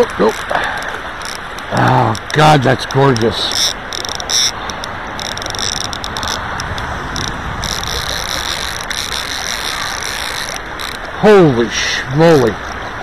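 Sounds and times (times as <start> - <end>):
fishing reel ratchet buzzing: 0.0 - 11.2
river water rushing: 0.0 - 13.0.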